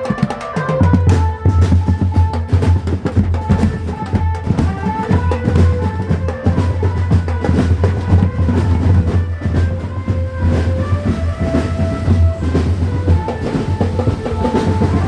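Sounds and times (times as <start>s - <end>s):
drum band procession music: 0.0s - 15.0s.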